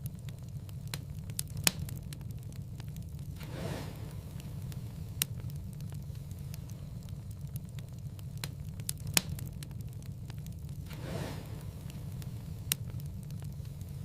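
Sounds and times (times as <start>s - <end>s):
fire rumbling and crackling: 0.0s - 14.0s.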